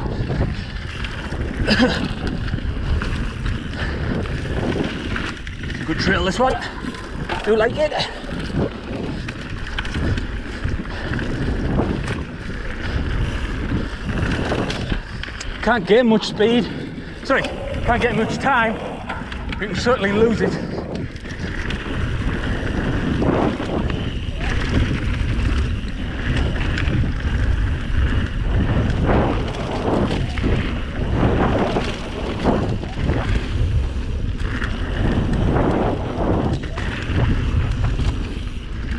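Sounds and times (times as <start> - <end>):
bike knocking and rattling: 0.0 - 38.9
bike tyres on dirt: 0.0 - 38.9
wind on microphone: 0.0 - 38.9.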